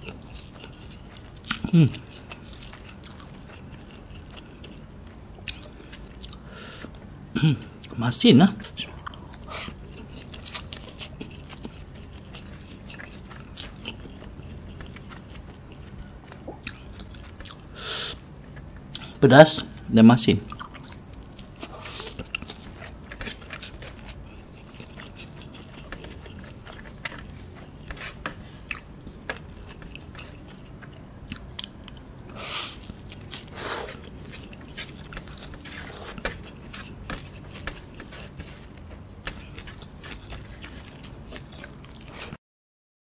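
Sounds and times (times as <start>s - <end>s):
wet chewing: 0.0s - 6.4s, 8.6s - 19.2s, 20.5s - 42.4s.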